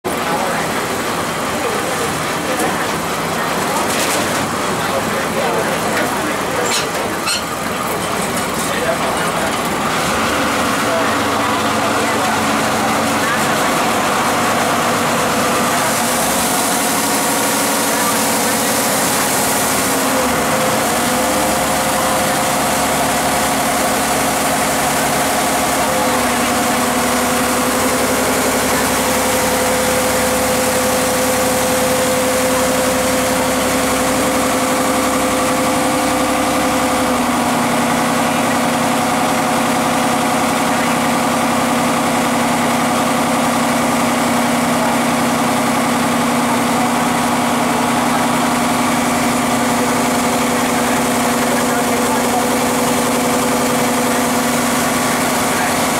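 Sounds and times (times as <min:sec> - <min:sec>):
ferry engine running: 0:00.0 - 0:55.9.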